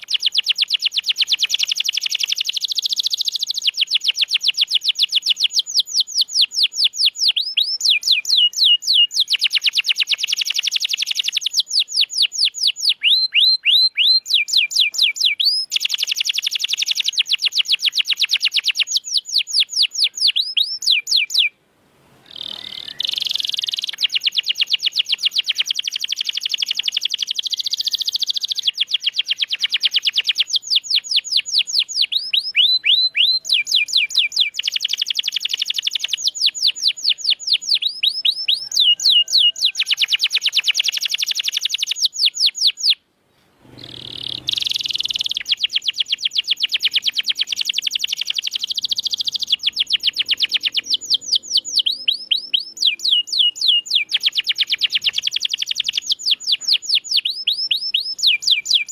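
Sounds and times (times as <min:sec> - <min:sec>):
canary singing trills: 0:00.0 - 0:21.6, 0:22.2 - 0:43.0, 0:43.7 - 0:58.9.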